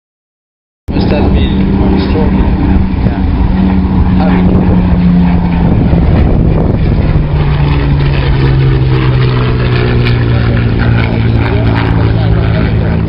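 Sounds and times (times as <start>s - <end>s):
propeller plane flying past: 0.9s - 13.0s.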